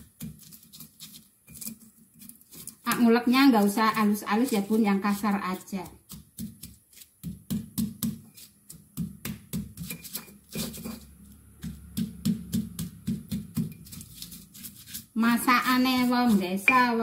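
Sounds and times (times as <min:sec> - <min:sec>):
stone pestle pounding in mortar: 0:02.9 - 0:17.0.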